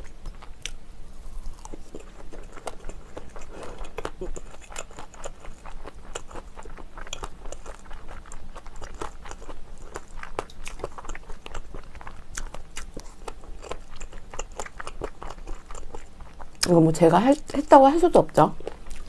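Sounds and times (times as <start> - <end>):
chewing food: 0.0 - 17.7, 18.5 - 19.0.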